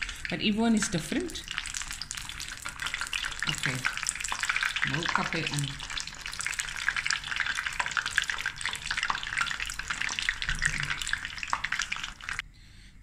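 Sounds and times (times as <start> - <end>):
food deep-frying in hot oil: 0.0 - 12.4.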